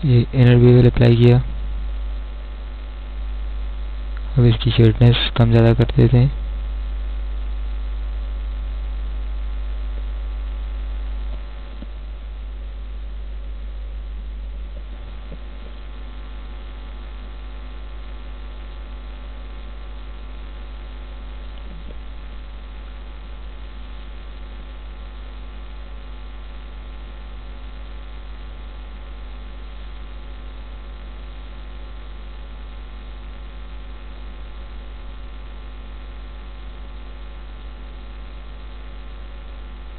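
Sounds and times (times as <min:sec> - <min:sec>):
electrical mains hum: 0:00.0 - 0:39.9
faint hiss: 0:00.0 - 0:39.9.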